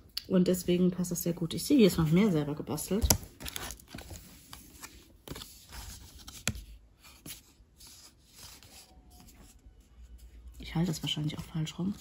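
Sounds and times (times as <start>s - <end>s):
paper rustling under hands: 1.9s - 12.0s.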